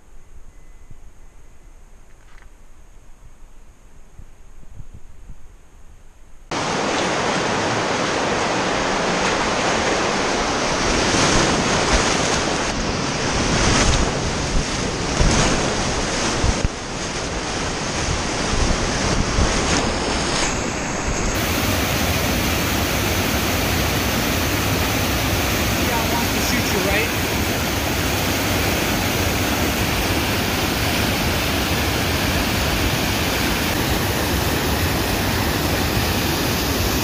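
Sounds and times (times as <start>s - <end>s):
rushing whitewater: 6.5s - 37.0s
water splashing around boat: 6.5s - 37.0s.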